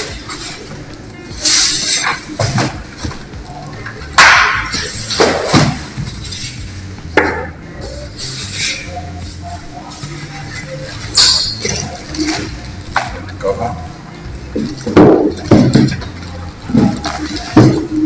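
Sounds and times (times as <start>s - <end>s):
background music with bass line: 0.0s - 18.0s.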